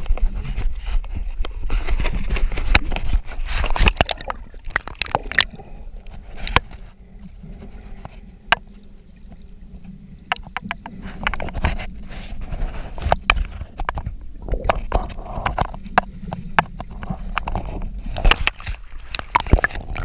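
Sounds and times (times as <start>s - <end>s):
underwater clicks and knocks: 0.0s - 20.0s
water moving against camera: 0.0s - 20.0s.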